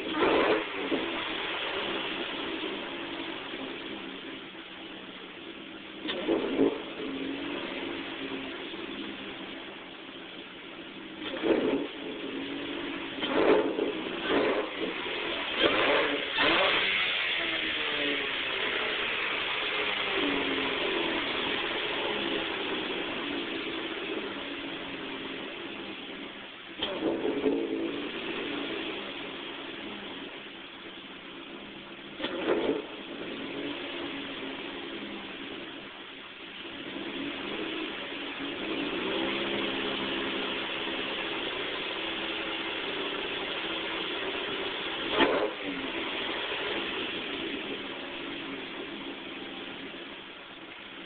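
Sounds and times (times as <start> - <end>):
car engine idling: 0.0 - 51.0
engine revving: 0.0 - 51.0.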